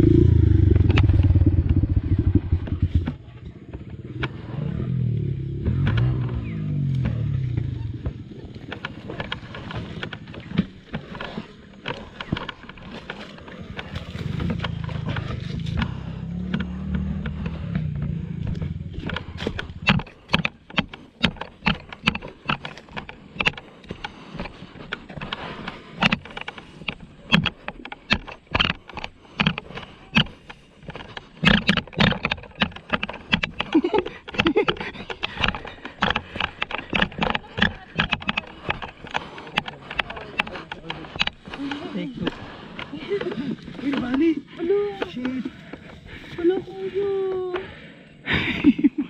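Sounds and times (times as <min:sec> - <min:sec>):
knocks and scrapes: 0:00.0 - 0:46.7
dirt bike engine running: 0:00.0 - 0:47.8.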